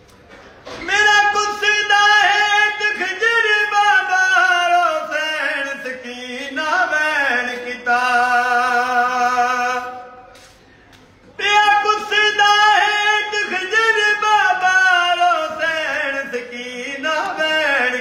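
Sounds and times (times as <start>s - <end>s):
elderly man singing unaccompanied: 0.8s - 10.1s, 11.4s - 18.0s.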